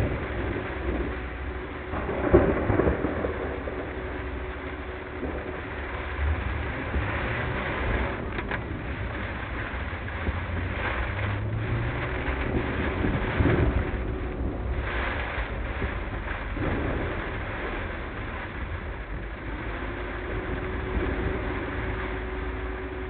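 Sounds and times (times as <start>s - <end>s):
heavy rain on moving car: 0.0s - 23.0s
wet road noise: 0.0s - 23.0s.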